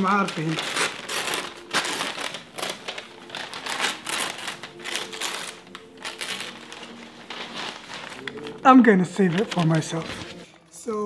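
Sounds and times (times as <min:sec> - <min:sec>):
wrapping paper rustling: 0:00.0 - 0:10.8.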